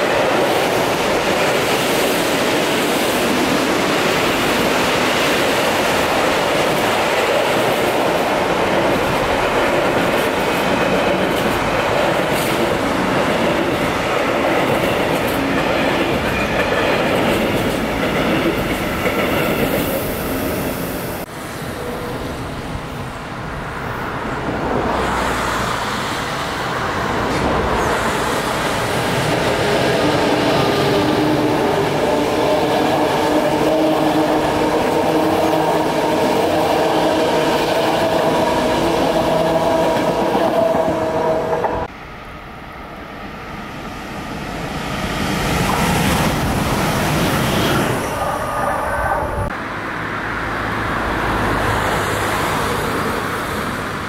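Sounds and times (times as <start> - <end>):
approaching train rumble: 0.0 - 54.0
electric locomotive whine: 0.0 - 54.0.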